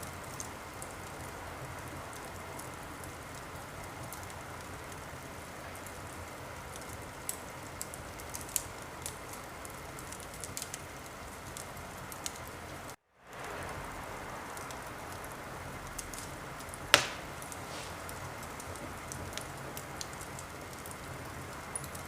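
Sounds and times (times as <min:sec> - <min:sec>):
fire crackles and pops: 0:00.0 - 0:22.0
wood fire hissing: 0:00.0 - 0:22.0.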